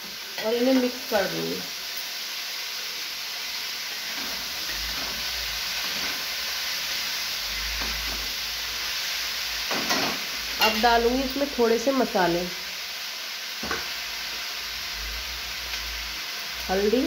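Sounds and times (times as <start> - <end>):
chillies sizzling in hot oil: 0.0 - 17.0.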